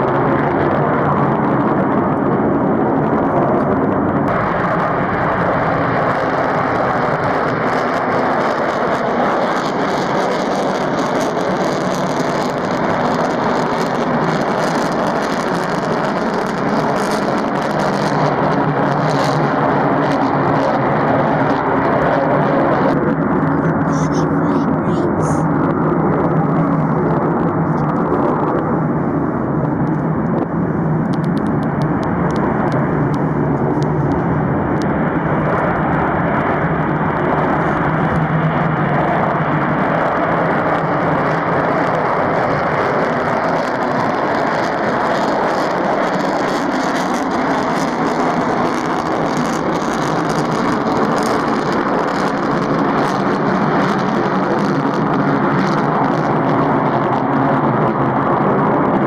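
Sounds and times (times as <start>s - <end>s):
jet engines at full afterburner: 0.0s - 59.0s.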